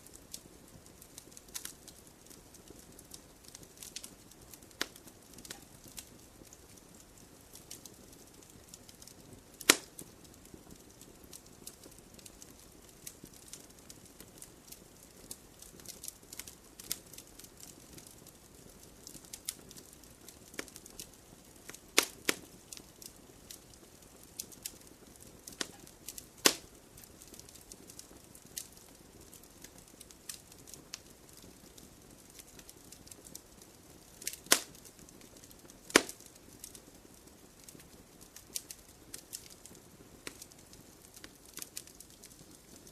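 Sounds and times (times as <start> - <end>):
campfire crackling: 0.0 - 42.9
sharp fire pops: 0.1 - 42.9.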